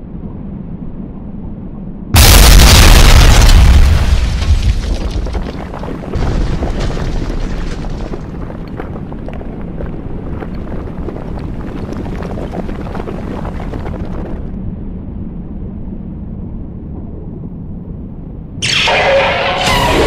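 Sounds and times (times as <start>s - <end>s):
low rumbling: 0.0s - 20.0s.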